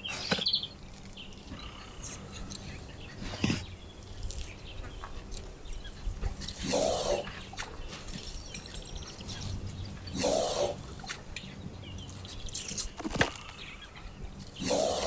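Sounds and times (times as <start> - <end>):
small wet clicks: 0.2 - 10.1, 10.8 - 14.6.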